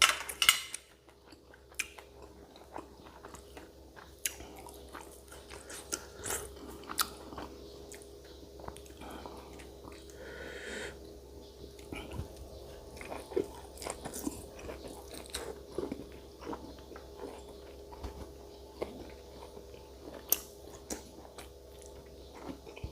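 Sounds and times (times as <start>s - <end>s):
close chewing and crunching: 0.0s - 10.4s, 11.5s - 22.9s
steady low hum: 0.0s - 22.9s.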